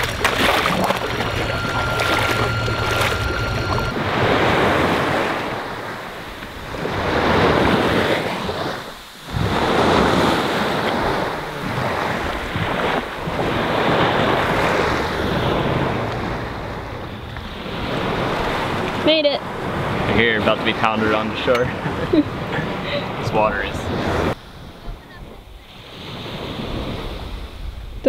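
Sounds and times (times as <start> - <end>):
small waves breaking: 0.0 - 27.9
wind buffeting microphone: 0.0 - 28.0.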